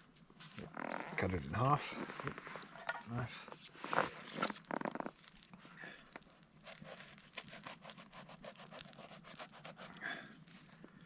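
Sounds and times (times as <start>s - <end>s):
crust crackling and tearing: 0.0s - 11.0s.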